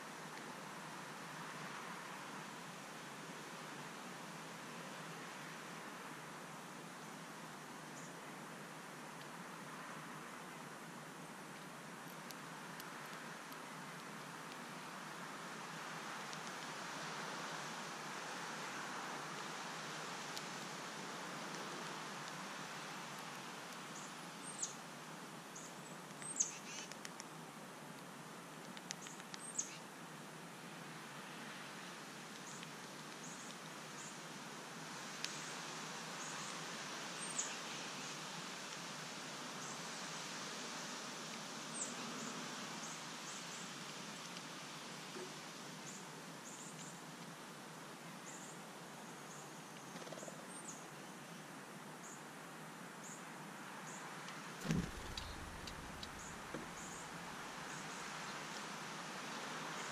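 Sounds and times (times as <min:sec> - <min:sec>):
steady outdoor hiss: 0:00.0 - 0:59.9.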